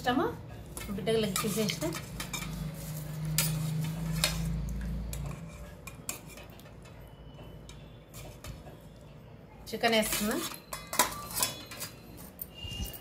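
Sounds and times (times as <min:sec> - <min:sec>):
metal ladle scraping a pot: 0:01.2 - 0:08.8, 0:10.0 - 0:13.0.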